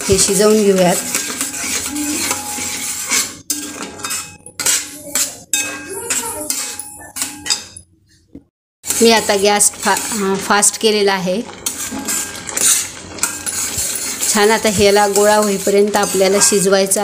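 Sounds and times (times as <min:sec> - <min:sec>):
metal spatula scraping a pot: 0:00.0 - 0:07.9, 0:08.8 - 0:17.0.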